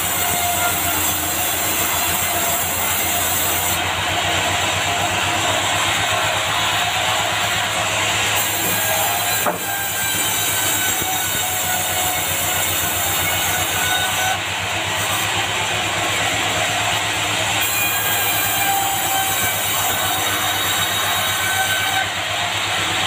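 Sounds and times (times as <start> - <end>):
band saw cutting wood planks: 0.0 - 23.0.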